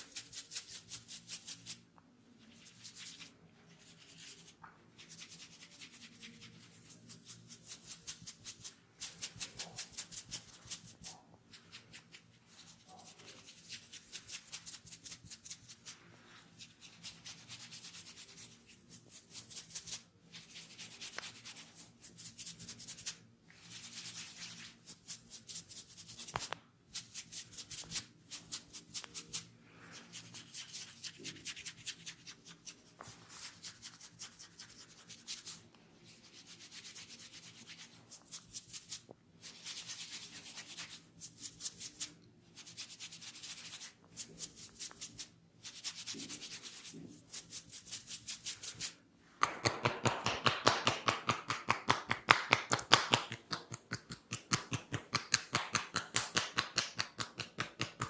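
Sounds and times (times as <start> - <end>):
hands rubbing through hair: 2.4 - 58.0.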